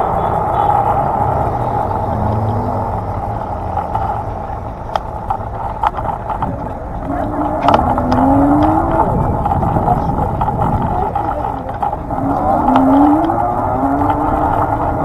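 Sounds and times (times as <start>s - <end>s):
low rumble: 0.0s - 15.0s
road and wind noise: 0.0s - 15.0s.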